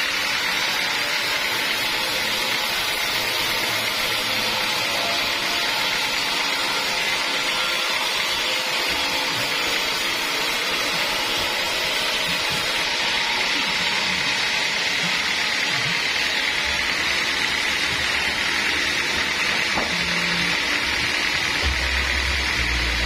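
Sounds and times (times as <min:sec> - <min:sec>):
band saw cutting through log: 0:00.0 - 0:23.0
machine hum: 0:00.0 - 0:23.0.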